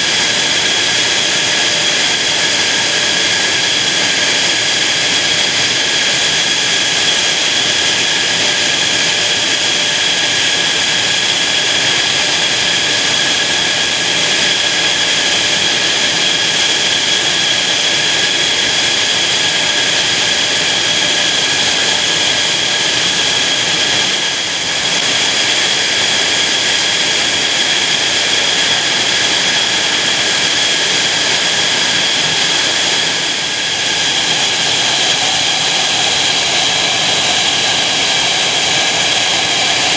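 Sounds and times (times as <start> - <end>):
jet engine roaring with whine: 0.0 - 39.9.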